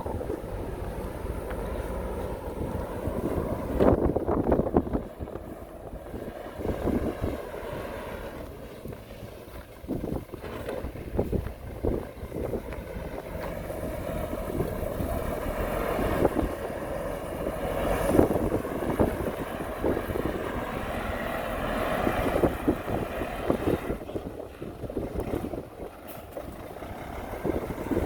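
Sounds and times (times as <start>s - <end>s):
diesel construction machinery running: 0.0s - 28.0s.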